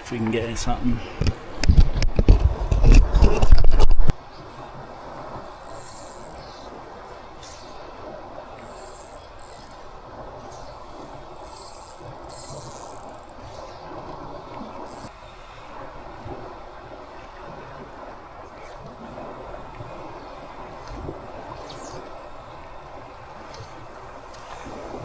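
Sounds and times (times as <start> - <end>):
breeze: 0.0 - 25.0
water: 0.0 - 25.0.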